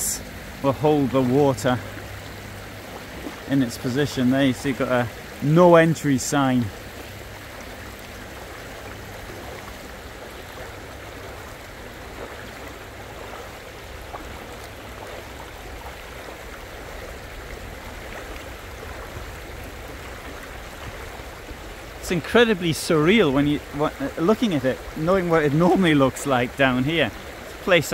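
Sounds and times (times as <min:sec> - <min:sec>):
floodwater rushing: 0:00.0 - 0:27.9.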